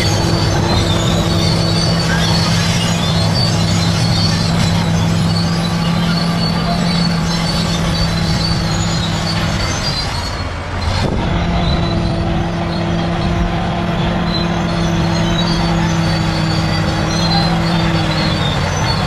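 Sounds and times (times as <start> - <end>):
diesel engine under load: 0.0 - 19.0
steel tracks squealing: 0.0 - 19.0.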